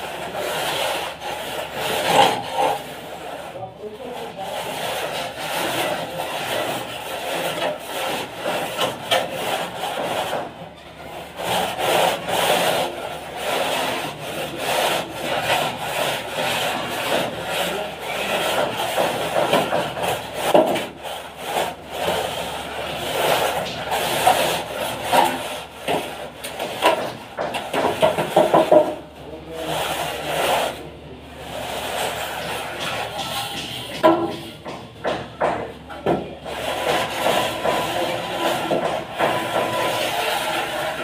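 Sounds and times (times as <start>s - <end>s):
metal straight edge scraping plaster: 0.0s - 35.2s, 36.0s - 41.0s.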